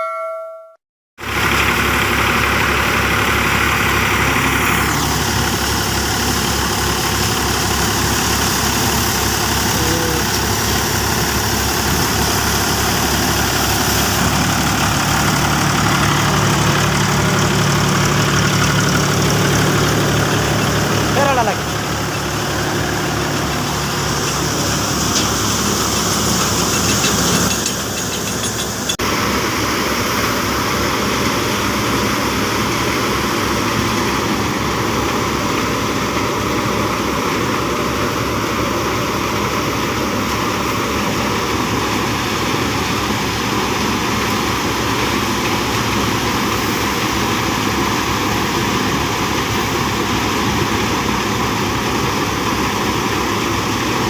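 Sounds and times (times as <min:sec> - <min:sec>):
tractor diesel engine running: 0:01.2 - 0:54.0.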